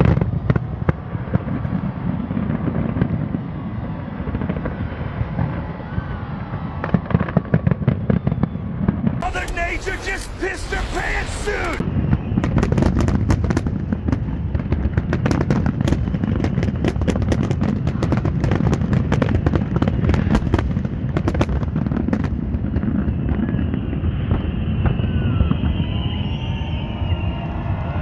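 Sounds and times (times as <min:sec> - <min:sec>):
low rumble of explosions: 0:00.0 - 0:28.0.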